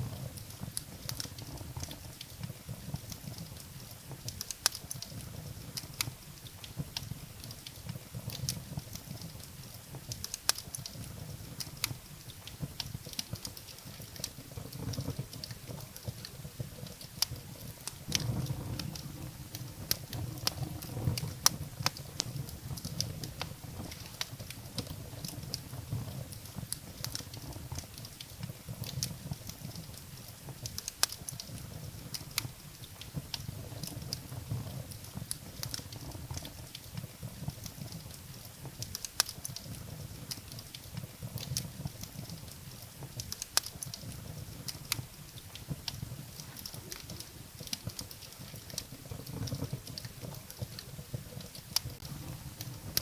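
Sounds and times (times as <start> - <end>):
firewood crackling and popping: 0.0 - 53.0
low flame noise: 0.0 - 53.0.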